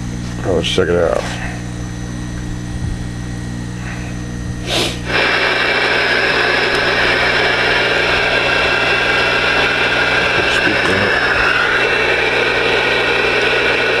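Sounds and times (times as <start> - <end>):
electrical hum: 0.0 - 14.0
radio static hiss: 0.2 - 14.0.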